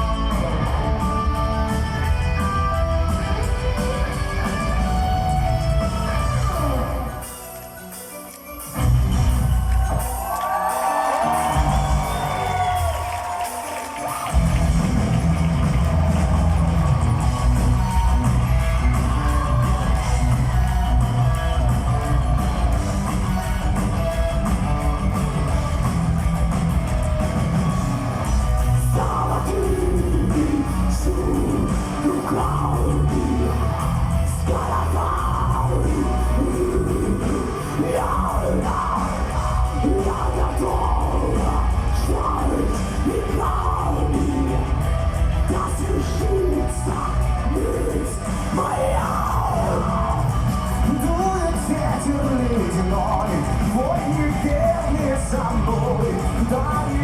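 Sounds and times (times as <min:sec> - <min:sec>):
heavy metal band playing: 0:00.0 - 0:07.9, 0:08.6 - 0:57.0.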